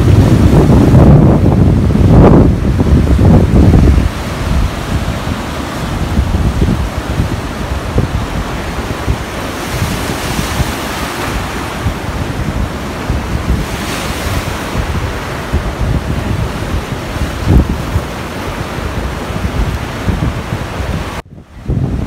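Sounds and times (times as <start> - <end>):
surf washing against rocks: 0.0 - 22.0
wind buffeting microphone: 0.0 - 22.0.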